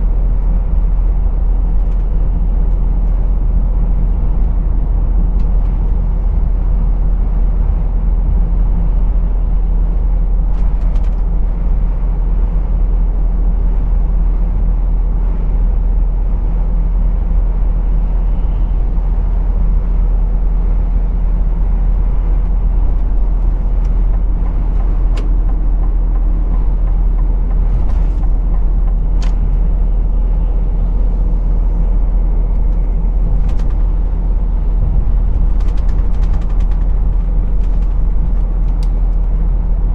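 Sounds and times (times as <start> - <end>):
lorry engine drone: 0.0 - 39.9
road rumble: 0.0 - 39.9.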